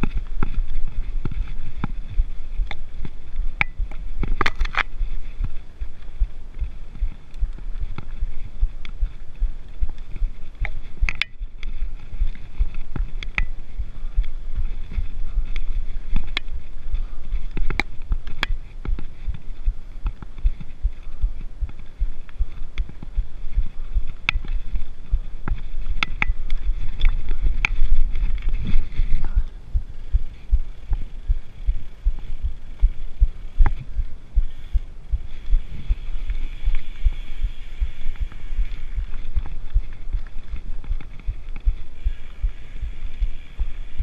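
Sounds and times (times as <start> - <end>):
bike tyres rumbling on dirt: 0.0 - 44.0.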